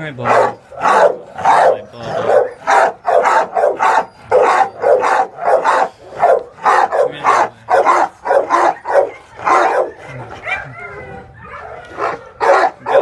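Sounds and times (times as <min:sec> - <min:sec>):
dog barking: 0:00.2 - 0:13.0.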